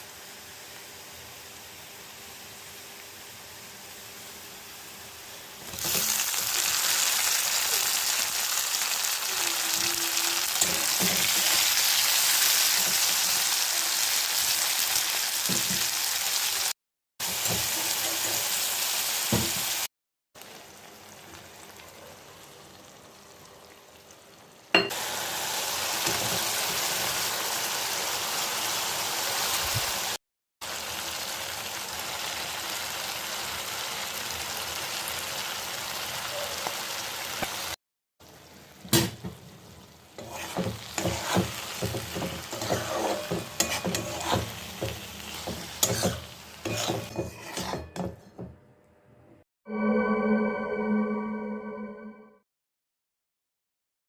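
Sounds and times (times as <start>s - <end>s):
spinach sizzling in hot oil: 0.0s - 47.9s.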